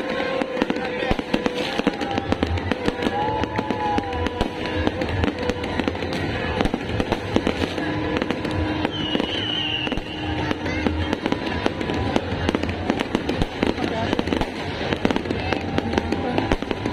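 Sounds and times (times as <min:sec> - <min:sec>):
fireworks bangs and crackles: 0:00.0 - 0:16.9.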